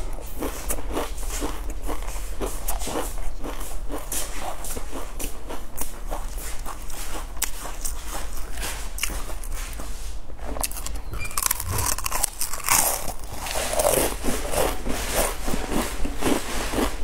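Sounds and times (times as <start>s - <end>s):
crisps crunching while chewed: 0.0s - 9.8s, 10.5s - 17.0s.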